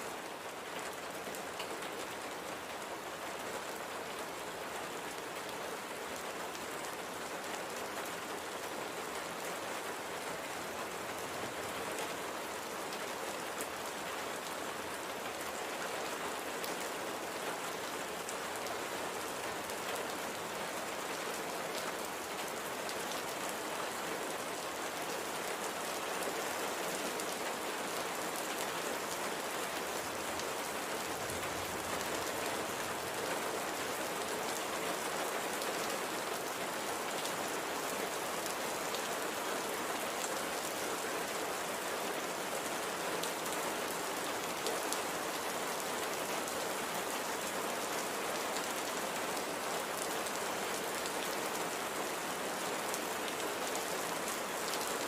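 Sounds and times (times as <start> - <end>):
light rain patter: 0.0 - 55.0.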